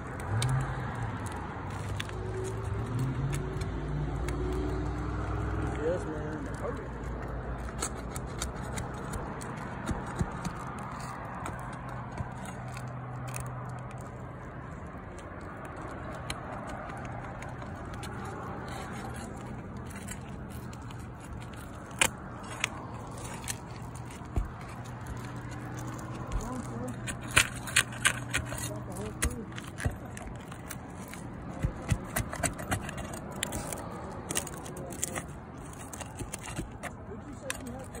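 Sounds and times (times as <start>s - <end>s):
pry bar scraping under shingles: 0.0s - 38.0s.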